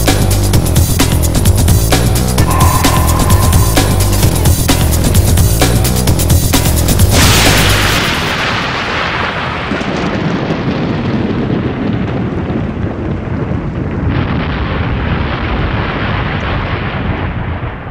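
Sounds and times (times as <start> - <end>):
loud steady rumbling: 0.0 - 17.9.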